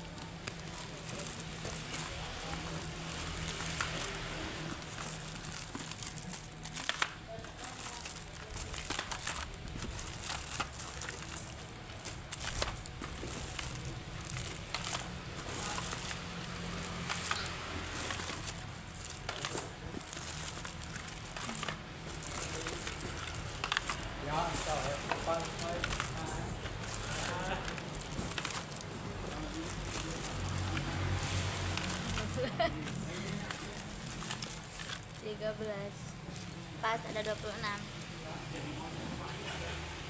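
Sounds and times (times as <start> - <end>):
packaging crinkling and rustling: 0.0 - 40.0.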